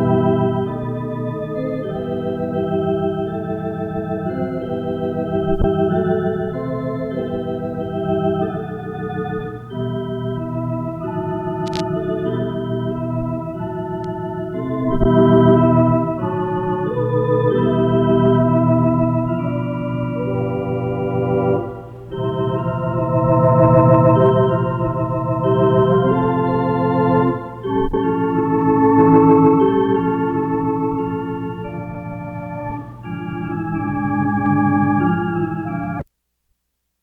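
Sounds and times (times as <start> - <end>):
sustained keyboard chords: 0.0 - 36.1.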